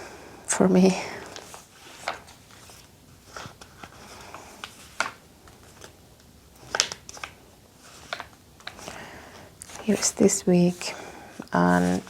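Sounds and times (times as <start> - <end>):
paper pages rustling: 1.2 - 12.0.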